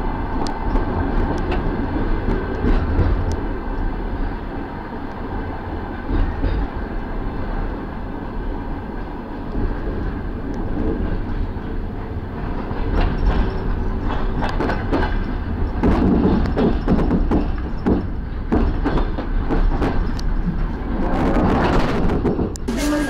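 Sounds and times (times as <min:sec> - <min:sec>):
low rumble of train running gear: 0:00.0 - 0:23.0
train wheels clacking over track: 0:00.0 - 0:23.0.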